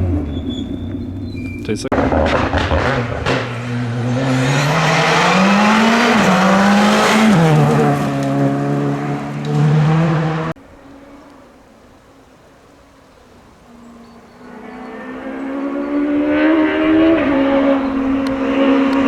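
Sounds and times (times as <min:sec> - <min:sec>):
rally car engine accelerating: 0:00.0 - 0:11.4, 0:13.7 - 0:19.0.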